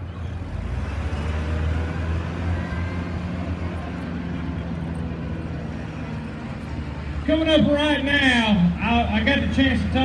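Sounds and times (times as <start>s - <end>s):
diesel truck engine droning: 0.0s - 10.0s.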